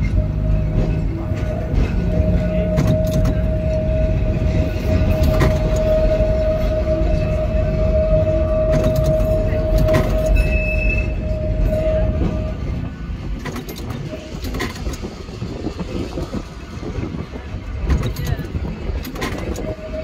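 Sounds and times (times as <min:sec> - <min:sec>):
tram rumbling along track: 0:00.0 - 0:20.0
tram whine: 0:00.0 - 0:20.0.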